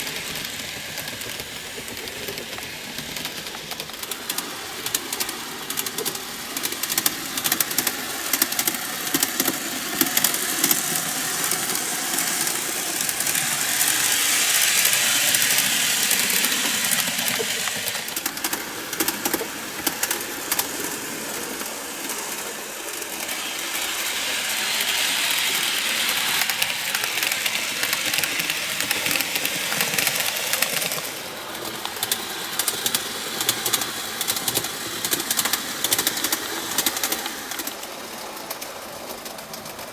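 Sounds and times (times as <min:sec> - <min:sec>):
model train motor whirring: 0:00.0 - 0:39.9
wheels clicking over rails: 0:00.0 - 0:39.9.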